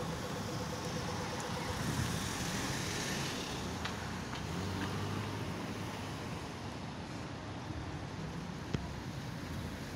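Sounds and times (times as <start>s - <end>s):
road traffic noise: 0.0s - 9.9s.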